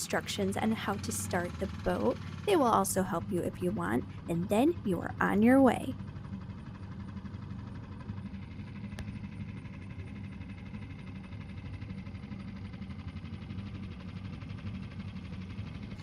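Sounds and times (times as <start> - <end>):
outboard motor buzzing: 0.0 - 16.0.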